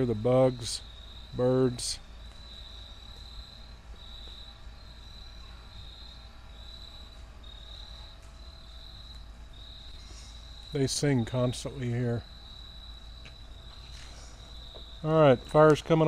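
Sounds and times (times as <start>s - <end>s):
insects singing: 0.0s - 16.0s.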